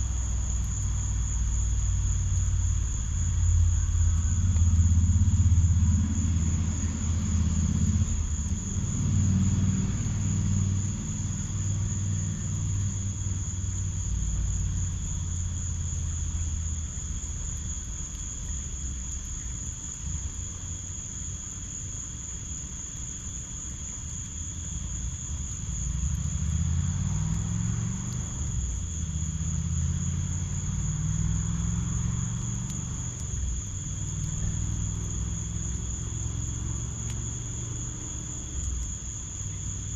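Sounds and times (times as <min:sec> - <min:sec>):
crickets trilling: 0:00.0 - 0:39.9
road traffic rumble: 0:00.0 - 0:39.9.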